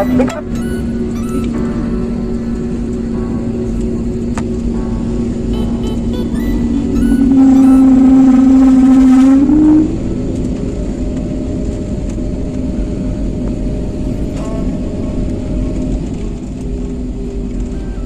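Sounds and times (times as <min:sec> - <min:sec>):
jet engine drone: 0:00.0 - 0:18.0
steady cabin hum: 0:00.0 - 0:18.0.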